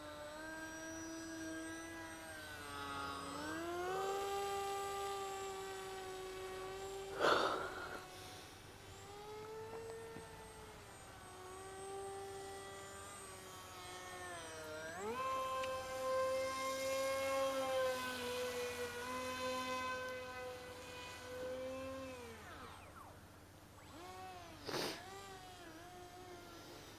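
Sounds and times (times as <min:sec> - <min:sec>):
electric motor propeller whine: 0:00.0 - 0:26.9.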